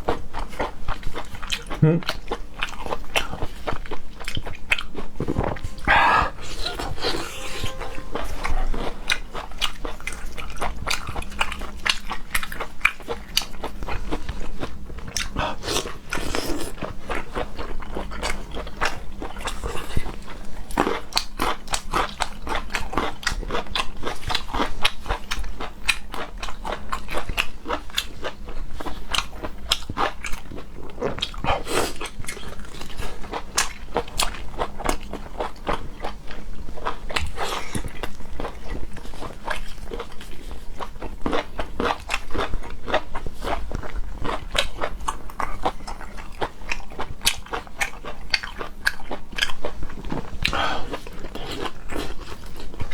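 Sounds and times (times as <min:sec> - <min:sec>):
person chewing food: 0:00.0 - 0:52.9.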